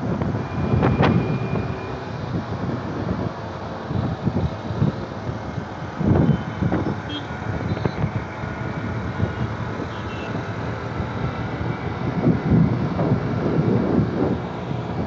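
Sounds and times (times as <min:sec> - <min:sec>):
road noise in highway traffic: 0:00.0 - 0:15.0
wind rumbling on microphone: 0:00.0 - 0:15.0.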